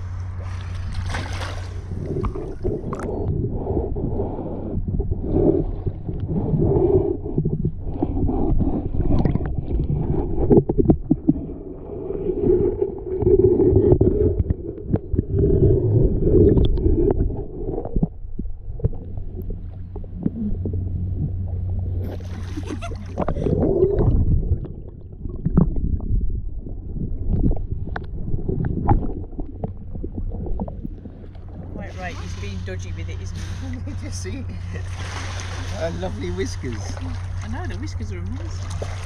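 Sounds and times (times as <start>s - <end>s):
muffled underwater sloshing: 0.0s - 39.0s.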